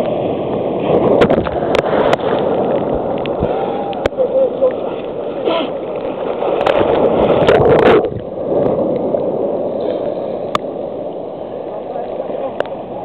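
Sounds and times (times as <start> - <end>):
surf sloshing and splashing: 0.0 - 13.0.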